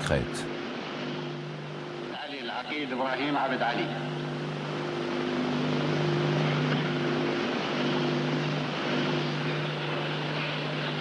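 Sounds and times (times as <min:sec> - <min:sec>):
constant hiss: 0:00.0 - 0:11.0
low electrical hum: 0:00.0 - 0:11.0.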